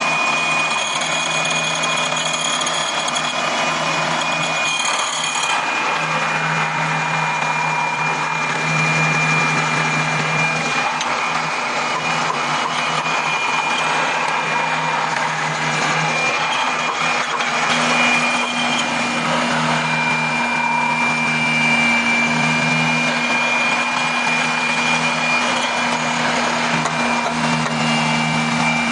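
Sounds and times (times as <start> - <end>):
drill boring into wood: 0.0 - 28.9.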